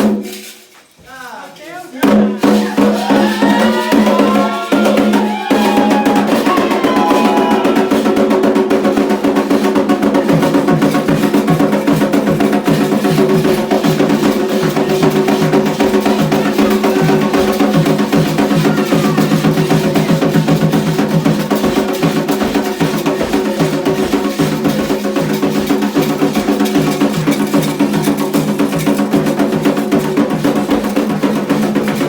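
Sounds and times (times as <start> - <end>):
drums beaten fast: 0.0 - 1.3, 2.0 - 32.0.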